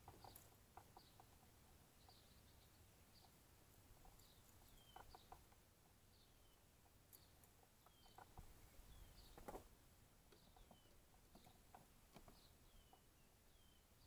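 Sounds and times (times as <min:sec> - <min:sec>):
songbird calling: 0:00.0 - 0:09.7, 0:10.3 - 0:14.0.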